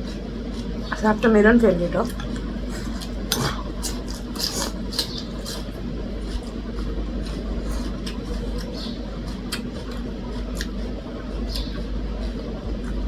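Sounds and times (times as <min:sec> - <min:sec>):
low background hum: 0:00.0 - 0:13.0
chewing and utensil clicks: 0:02.0 - 0:13.0.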